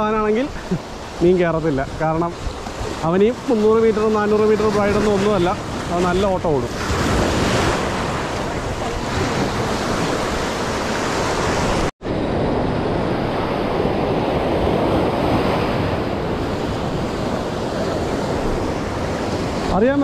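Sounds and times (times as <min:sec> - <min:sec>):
wind buffeting microphone: 0:00.0 - 0:19.8
sea waves rushing: 0:00.0 - 0:20.0.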